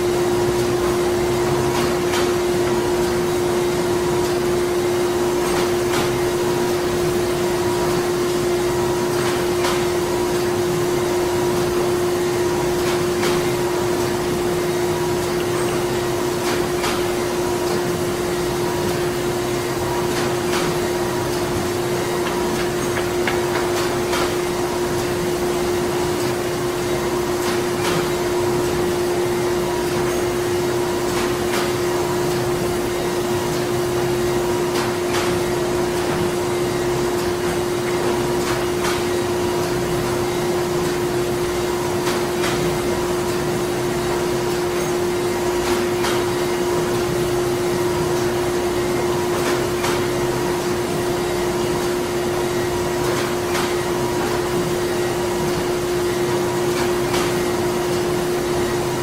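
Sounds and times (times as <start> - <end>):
machinery humming: 0.0 - 59.0.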